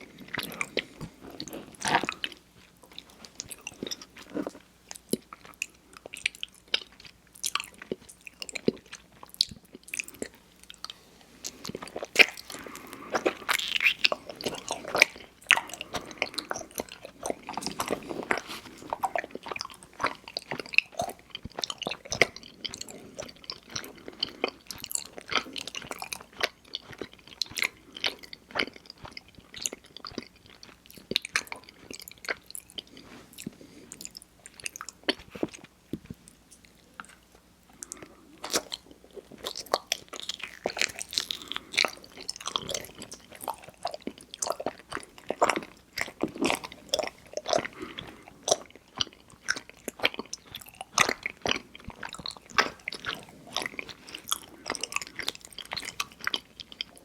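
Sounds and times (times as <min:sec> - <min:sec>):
biting and chewing mouth sounds: 0:00.0 - 0:57.0.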